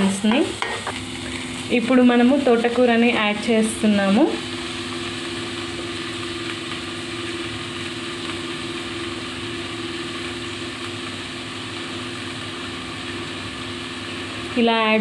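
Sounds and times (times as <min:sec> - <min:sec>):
mechanical hum: 0:00.0 - 0:15.0
vegetables sizzling in oil: 0:00.0 - 0:15.0.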